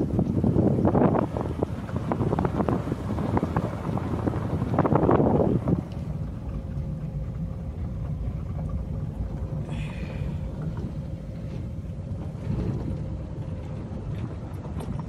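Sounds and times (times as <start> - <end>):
faint steady hum: 0.0 - 15.0
vehicle rumbling along a road: 0.0 - 15.0.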